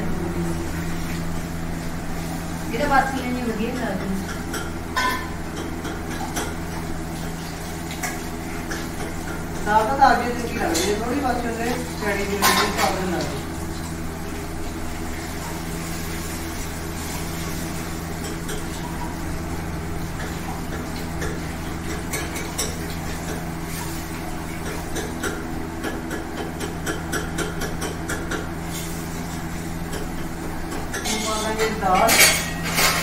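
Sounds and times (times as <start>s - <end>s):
low mechanical hum: 0.0s - 33.0s
pots and utensils clinking: 2.7s - 13.9s, 15.5s - 33.0s.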